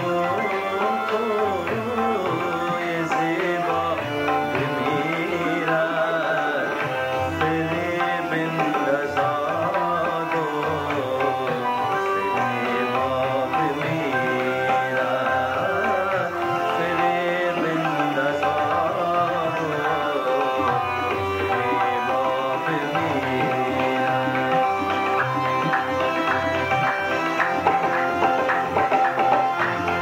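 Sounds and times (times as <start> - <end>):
tabla drumming: 0.0 - 30.0.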